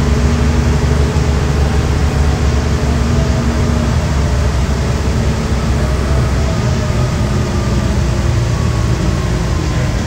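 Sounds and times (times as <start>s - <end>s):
vehicle road and engine rumble: 0.0s - 10.0s.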